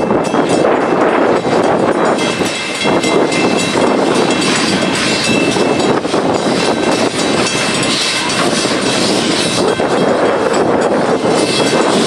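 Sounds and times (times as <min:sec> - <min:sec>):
steel wheels rolling on rails: 0:00.0 - 0:12.0.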